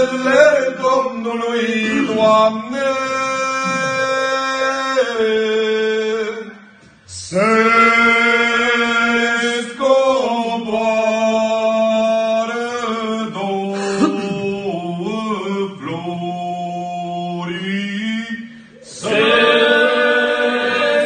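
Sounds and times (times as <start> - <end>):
men singing a slow carol: 0.0 - 21.0.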